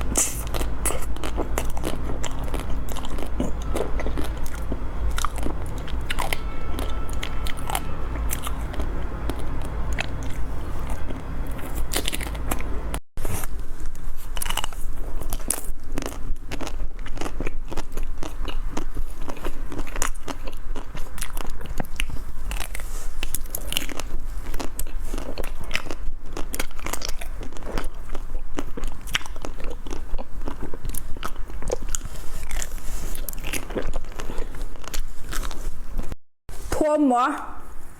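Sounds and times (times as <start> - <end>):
chocolate coating crunching: 0.0 - 13.0, 13.9 - 36.1
chewing ice cream bar: 0.0 - 36.2.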